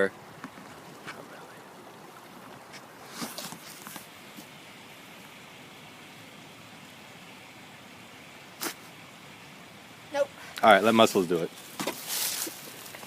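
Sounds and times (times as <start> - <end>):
small river rushing: 0.0 - 13.0.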